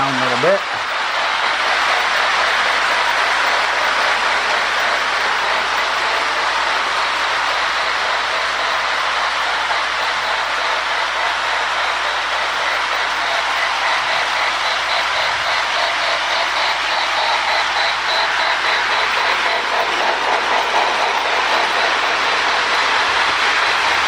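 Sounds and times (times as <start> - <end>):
model train motor and wheels: 0.0 - 24.0
model train steam hiss: 0.0 - 24.0.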